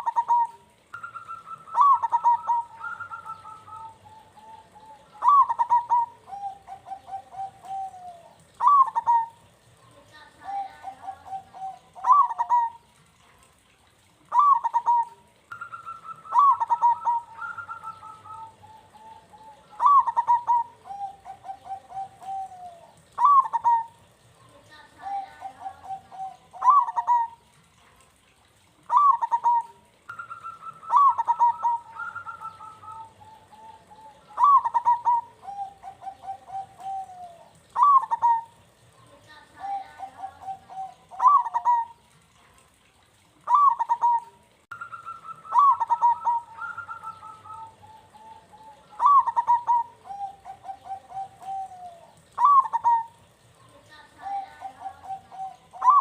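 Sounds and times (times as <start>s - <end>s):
dove cooing: 0.0s - 13.4s, 14.1s - 27.5s, 28.7s - 42.3s, 43.1s - 56.0s.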